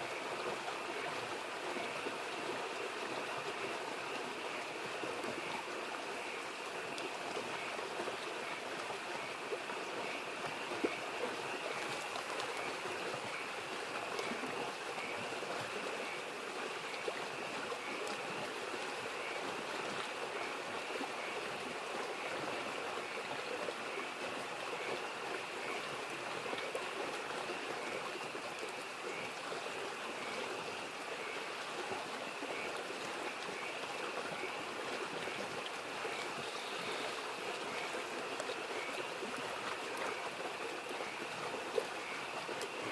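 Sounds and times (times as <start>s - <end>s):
stream babbling: 0.0s - 42.9s
frogs calling: 3.6s - 42.9s.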